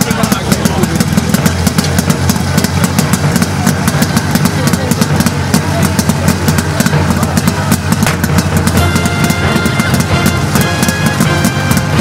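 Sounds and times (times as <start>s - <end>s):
petrol engine idling: 0.0s - 12.0s.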